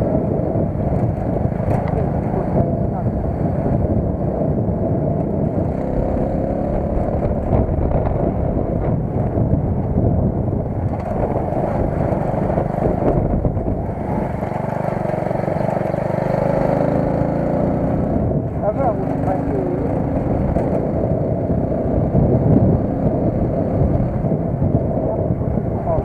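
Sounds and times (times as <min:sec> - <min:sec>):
road noise: 0:00.0 - 0:26.0
car engine: 0:00.6 - 0:24.7.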